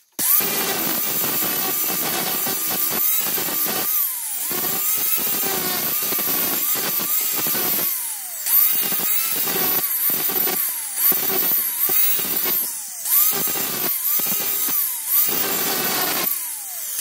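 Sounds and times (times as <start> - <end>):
motor whine: 0.0 - 17.0
power tool grinding metal: 0.0 - 17.0.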